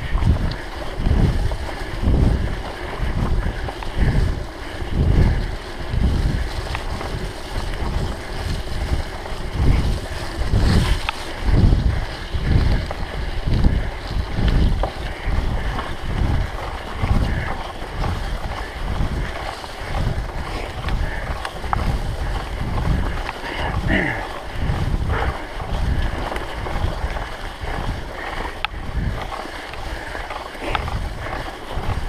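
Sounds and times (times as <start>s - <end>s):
bike clicks and rattles: 0.0s - 32.0s
wind buffeting microphone: 0.0s - 32.0s.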